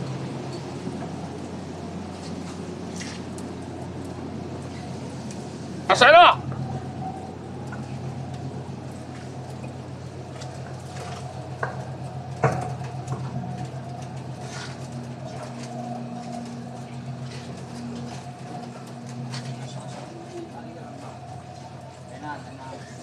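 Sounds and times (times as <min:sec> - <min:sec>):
boat machinery humming: 0:00.0 - 0:23.0.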